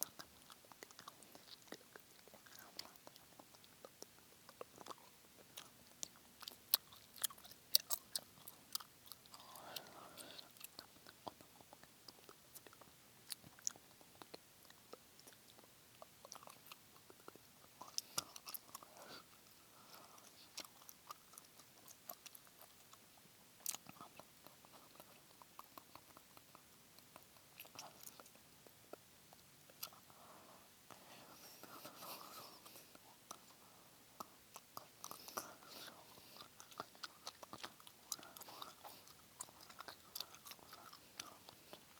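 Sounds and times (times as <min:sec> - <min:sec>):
chewing gum: 0:00.0 - 0:30.2, 0:30.9 - 0:41.9
breathy mouth sounds: 0:00.0 - 0:41.9.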